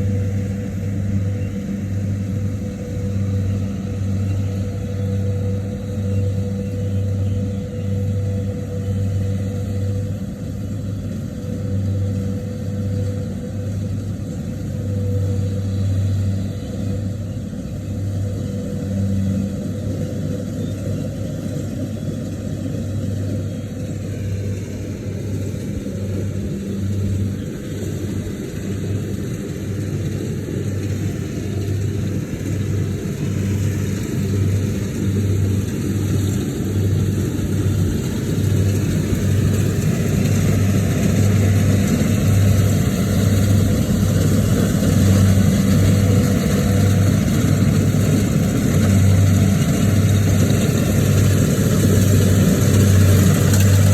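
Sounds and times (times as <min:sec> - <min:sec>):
engine running with pulsing hum: 0:00.0 - 0:53.9.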